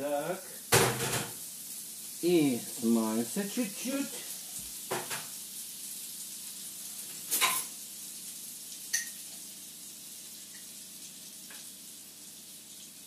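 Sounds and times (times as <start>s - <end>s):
oil sizzling in frying pan: 0.0s - 13.0s.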